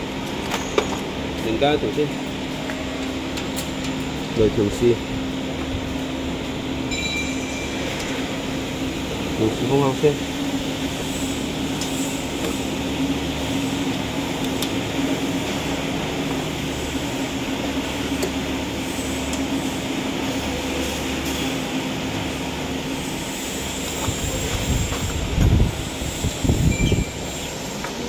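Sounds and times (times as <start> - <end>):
factory machinery hum: 0.0 - 28.0.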